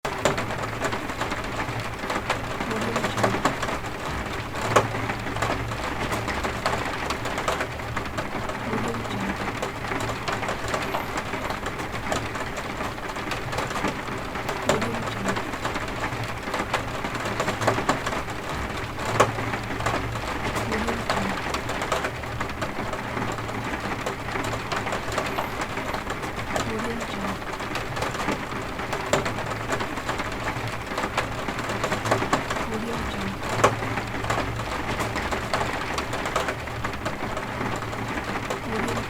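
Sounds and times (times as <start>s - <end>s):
heavy rain: 0.0s - 39.0s
sharp rain drop taps: 0.1s - 39.0s.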